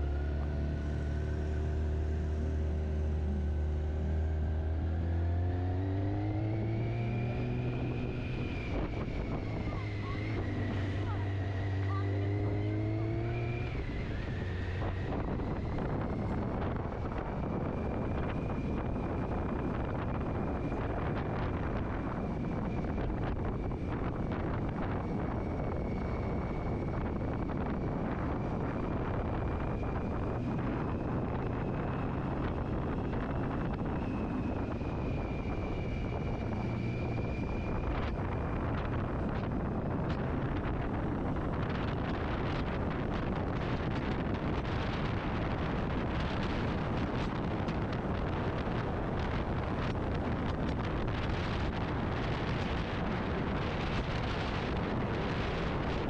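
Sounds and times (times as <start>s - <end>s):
motorcycle engine and road noise: 0.0s - 56.0s
wind buffeting microphone: 0.0s - 56.0s.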